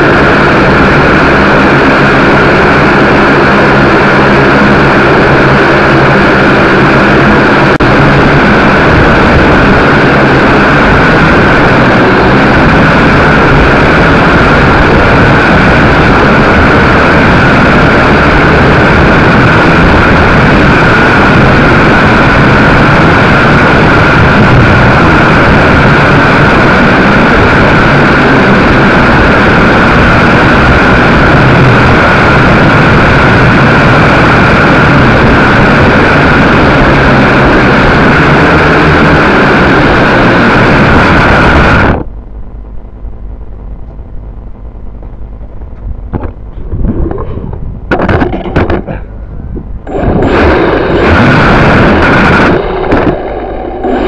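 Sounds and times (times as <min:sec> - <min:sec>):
drone motors whining and buzzing: 0:00.0 - 0:54.0.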